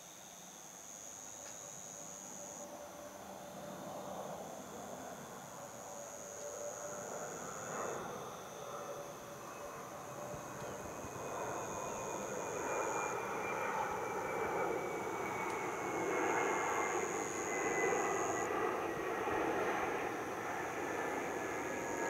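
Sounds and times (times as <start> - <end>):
thin whine gliding down: 0.6 - 22.0
aircraft engine rush: 2.6 - 22.0.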